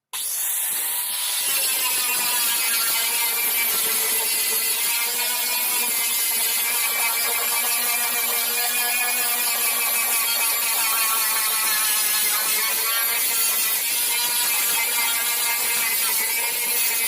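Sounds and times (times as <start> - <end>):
power tool motor whine: 0.0 - 17.0.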